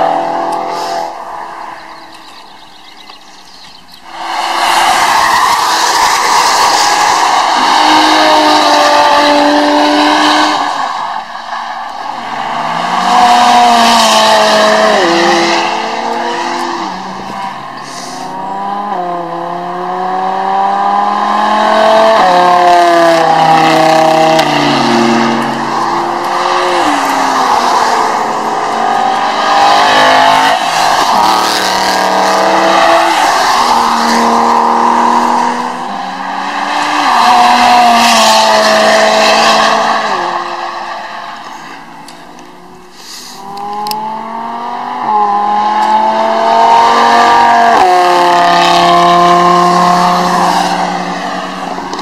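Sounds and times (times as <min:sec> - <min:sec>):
race car engines accelerating: 0:00.0 - 0:52.0.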